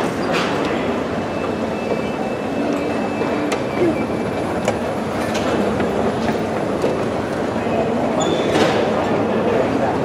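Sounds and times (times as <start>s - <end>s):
large hall background noise: 0.0s - 10.0s.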